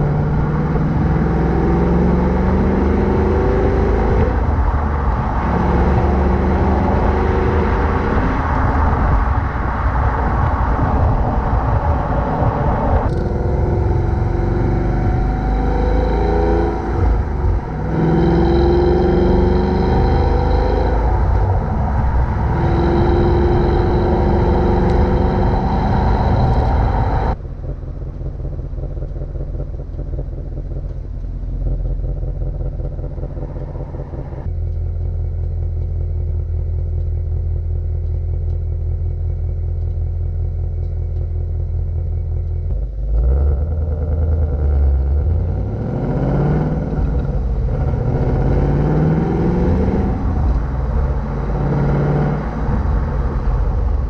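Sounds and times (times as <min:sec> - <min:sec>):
car engine exhaust revving: 0:00.0 - 0:54.0.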